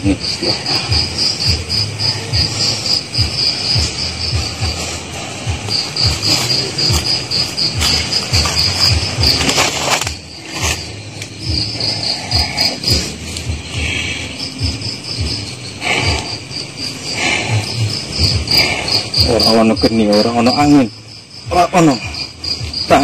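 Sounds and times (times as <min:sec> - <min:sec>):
low thumps: 0:00.0 - 0:16.5, 0:17.4 - 0:20.0
insect chirping: 0:00.0 - 0:23.0.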